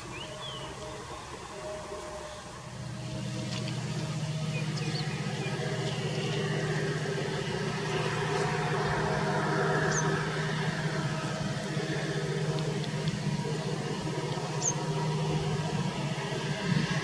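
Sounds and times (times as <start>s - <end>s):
diesel locomotive engine running: 0.0s - 17.0s
faint birds chirping: 0.0s - 17.0s.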